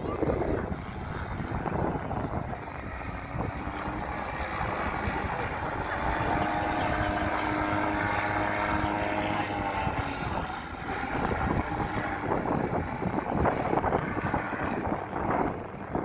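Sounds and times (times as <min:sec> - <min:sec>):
propeller aircraft engines droning: 0:00.0 - 0:16.0.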